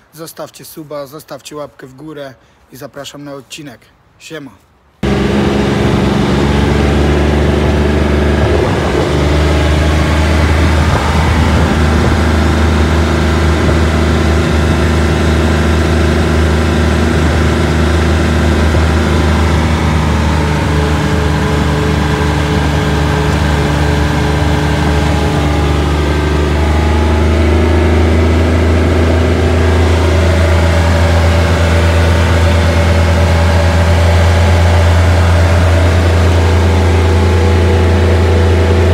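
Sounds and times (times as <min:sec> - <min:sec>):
vehicle engine running in cab: 0:05.0 - 0:38.9.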